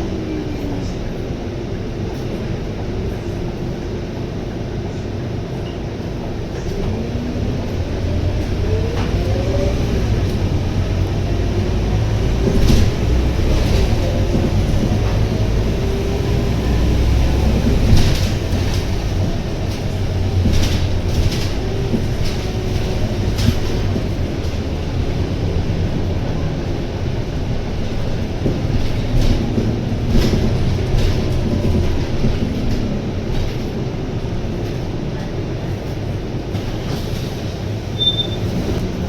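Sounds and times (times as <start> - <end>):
bus body rattling: 0.0 - 39.0
bus engine rumbling: 0.0 - 39.0.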